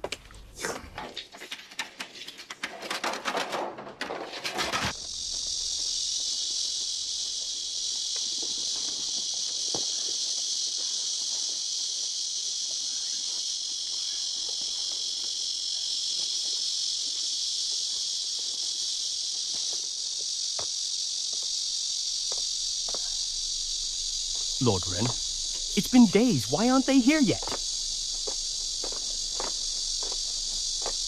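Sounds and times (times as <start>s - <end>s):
insect chorus chirring: 4.7s - 31.0s.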